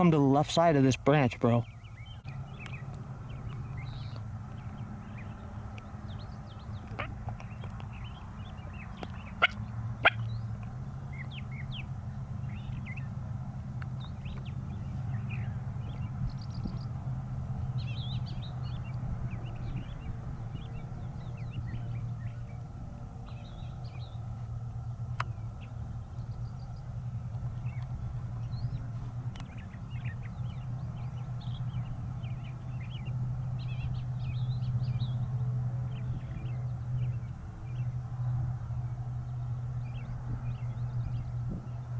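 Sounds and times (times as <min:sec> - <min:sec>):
songbirds chirping: 0:00.0 - 0:41.9
steady low hum: 0:00.0 - 0:41.9
steady low rumble: 0:00.0 - 0:41.9.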